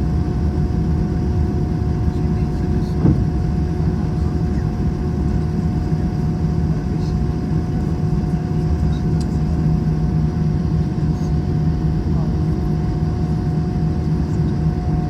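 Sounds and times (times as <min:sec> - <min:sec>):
constant hum tones: 0:00.0 - 0:15.0
engine and airflow rumble: 0:00.0 - 0:15.0.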